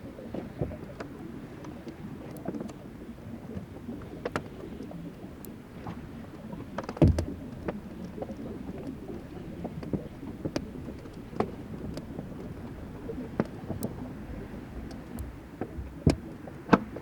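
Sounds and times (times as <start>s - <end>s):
meltwater moving: 0.0s - 17.0s.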